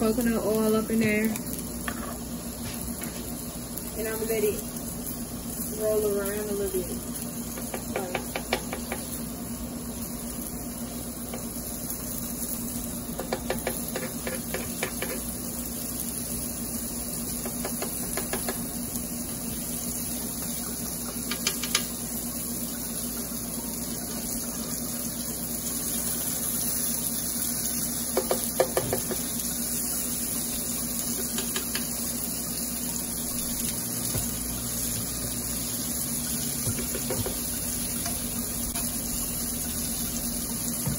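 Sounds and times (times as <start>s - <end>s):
chicken sizzling in a pan: 0.0s - 40.9s.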